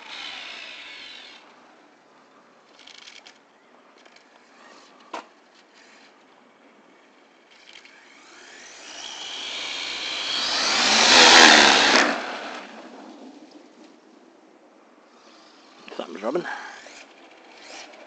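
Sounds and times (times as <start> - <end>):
rc truck motor whine: 0.0 - 2.0, 2.6 - 13.3, 15.1 - 18.0.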